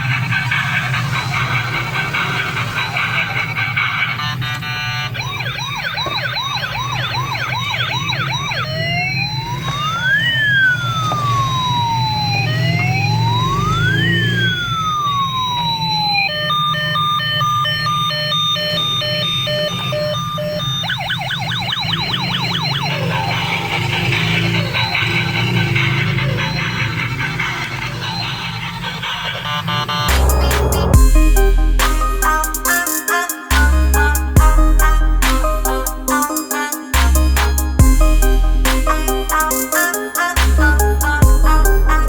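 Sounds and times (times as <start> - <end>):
toy police siren: 0.0 - 42.0.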